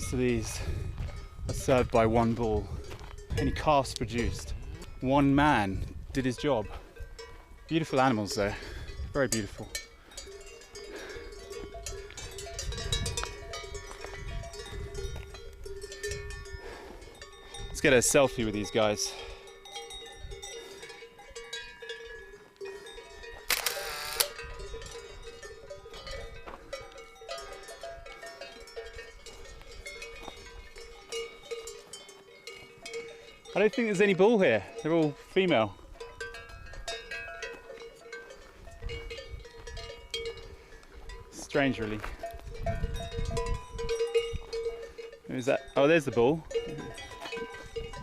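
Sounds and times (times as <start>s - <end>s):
cowbells clanking: 0.0s - 48.0s.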